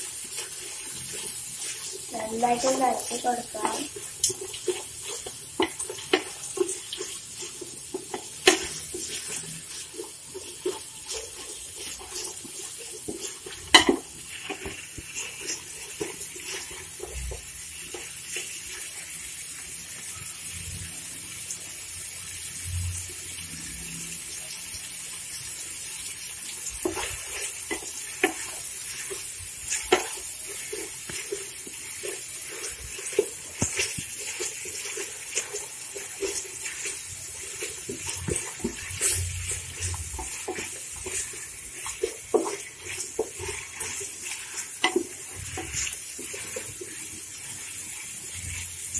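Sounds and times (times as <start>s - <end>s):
wooden spatula scraping a pot: 0.0s - 19.7s, 25.3s - 48.9s
food sizzling in hot oil: 0.0s - 48.9s.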